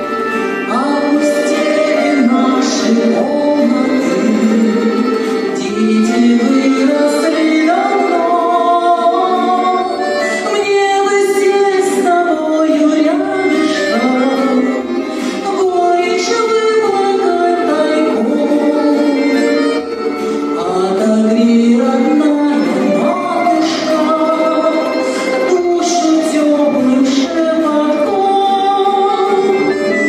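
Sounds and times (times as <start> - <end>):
high voices singing: 0.0 - 30.0
instrumental accompaniment: 0.0 - 30.0.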